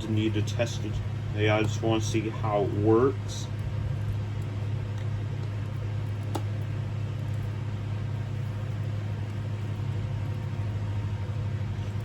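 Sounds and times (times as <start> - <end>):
steady low motor hum: 0.0 - 12.0.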